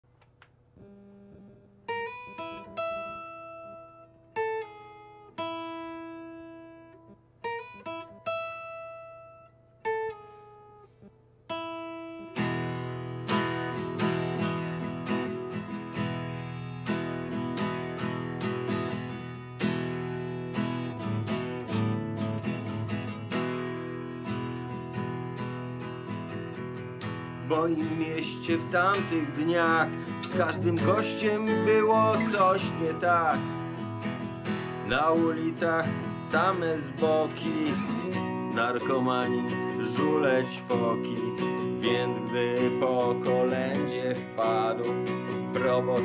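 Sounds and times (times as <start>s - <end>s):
acoustic guitar picked notes: 0.8s - 46.0s
acoustic guitar strummed chords: 1.4s - 46.0s.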